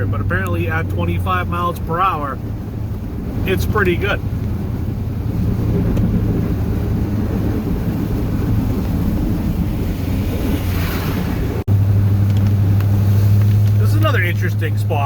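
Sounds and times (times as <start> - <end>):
truck engine cruising: 0.0 - 15.0.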